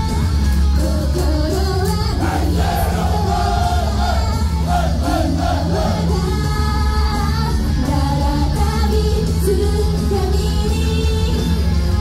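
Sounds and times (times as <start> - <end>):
pop song with singing voices: 0.0 - 12.0.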